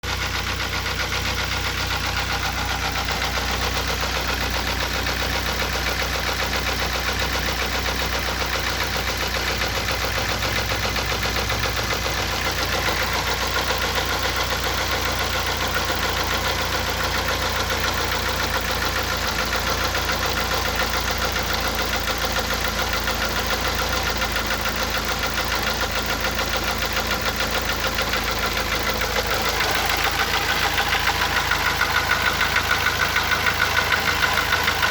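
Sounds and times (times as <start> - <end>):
car engine idling: 0.0 - 34.9
fast regular engine knock: 0.0 - 34.9.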